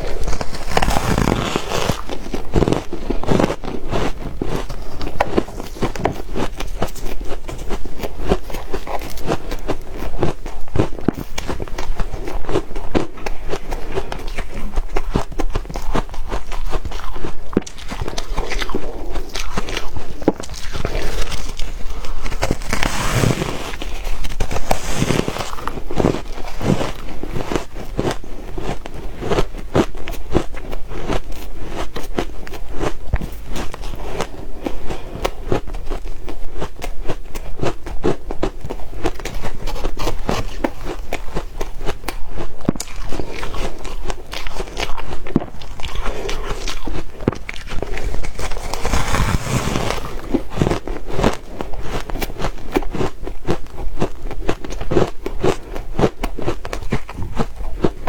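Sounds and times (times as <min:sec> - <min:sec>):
person chewing crushed ice: 0:00.0 - 0:58.0.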